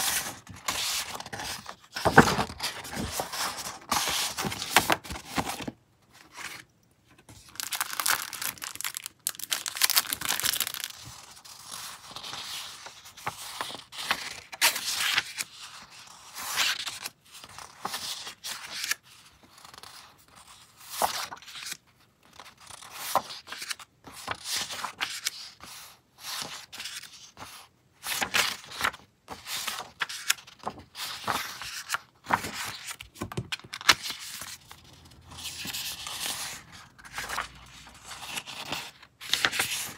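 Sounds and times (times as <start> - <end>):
paper rustling and sliding: 0.0 - 19.0, 22.7 - 39.9.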